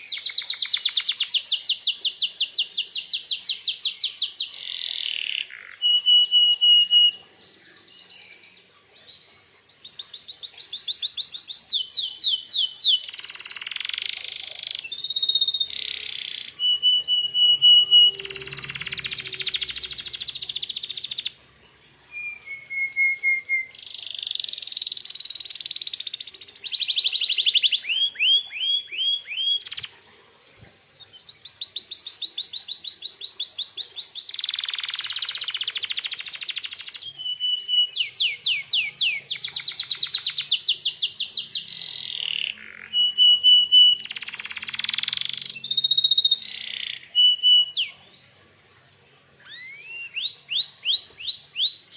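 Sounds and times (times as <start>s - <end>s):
canary singing: 0.0s - 7.3s, 8.1s - 30.0s, 31.0s - 48.6s, 49.4s - 51.9s.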